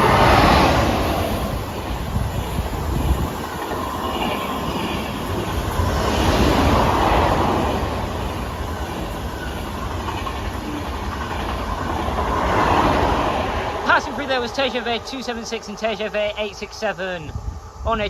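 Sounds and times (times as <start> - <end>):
train passing: 0.0 - 18.0.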